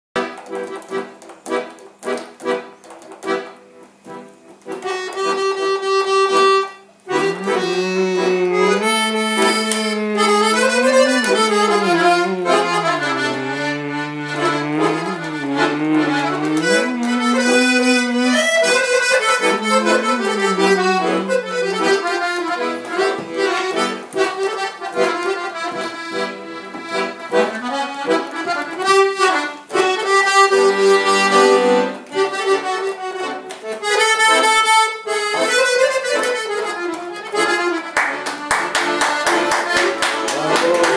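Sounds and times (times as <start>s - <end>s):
accordion dance tune: 0.2s - 40.9s.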